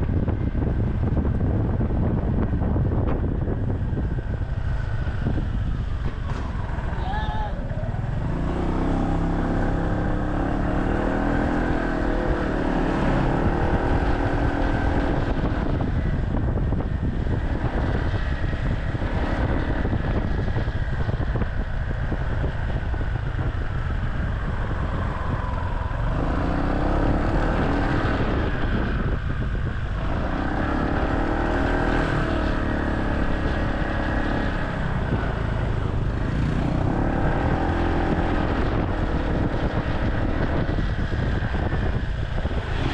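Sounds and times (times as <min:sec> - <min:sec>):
wind and road noise: 0:00.0 - 0:42.9.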